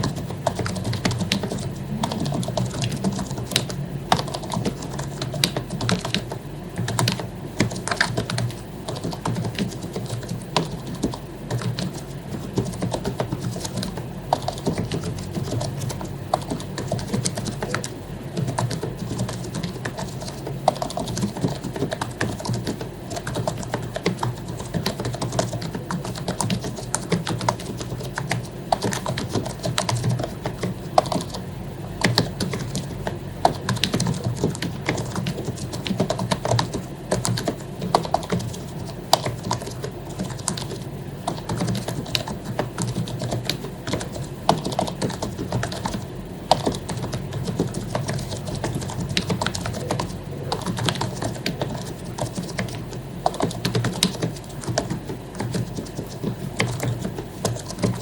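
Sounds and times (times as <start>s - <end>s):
steady low hum: 0.0s - 58.0s
typing on computer keyboard: 0.0s - 58.0s.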